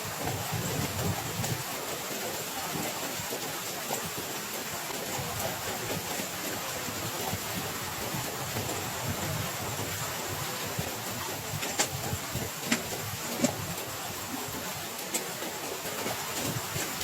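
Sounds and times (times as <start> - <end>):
heavy rain falling: 0.0 - 17.0
sharp taps of raindrops: 0.0 - 17.0.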